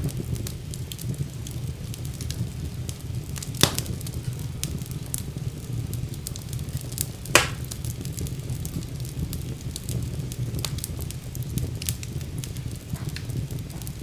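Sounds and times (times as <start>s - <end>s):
fire crackling: 0.0s - 14.0s
loud sharp fire pops: 0.0s - 14.0s
low rumble of flames: 0.0s - 14.0s.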